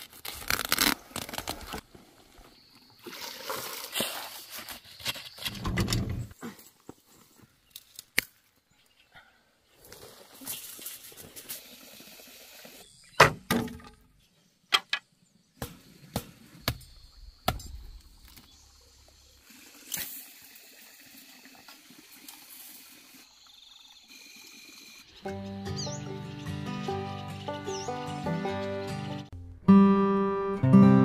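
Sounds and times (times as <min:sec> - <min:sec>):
faint outdoor background: 0:00.0 - 0:31.0.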